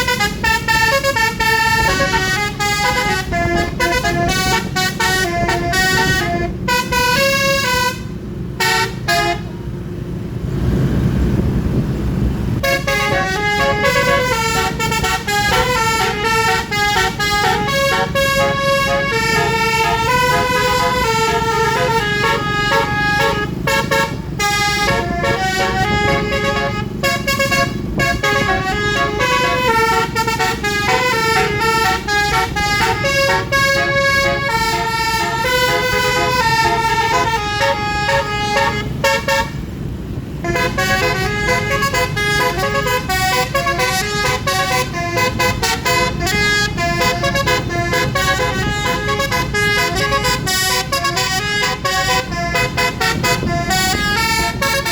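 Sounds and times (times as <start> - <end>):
musical vehicle horn playing tune: 0.0 - 9.6, 12.6 - 54.9
rushing rumble: 0.0 - 54.9.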